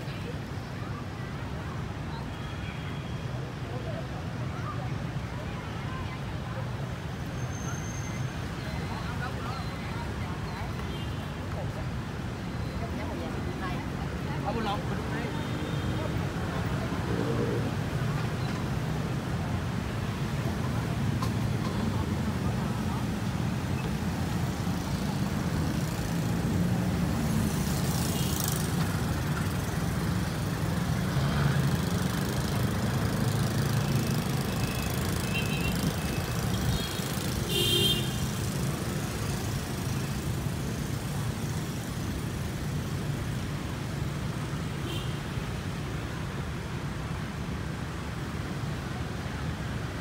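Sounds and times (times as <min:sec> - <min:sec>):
city street traffic: 0:00.0 - 0:50.0.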